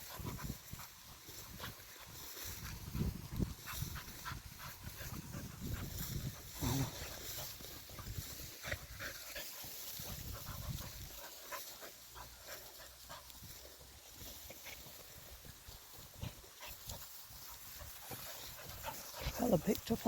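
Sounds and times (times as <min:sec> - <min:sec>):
dogs sniffing: 0:00.0 - 0:20.0
rustling through long grass: 0:00.0 - 0:20.0.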